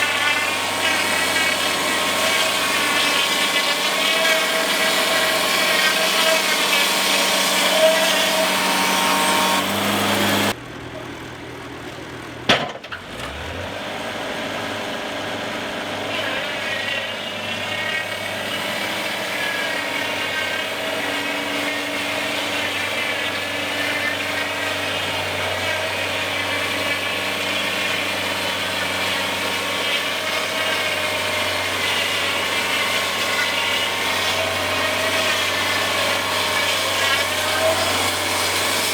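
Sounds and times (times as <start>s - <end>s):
band saw cutting log: 0.0s - 10.6s, 12.9s - 38.9s.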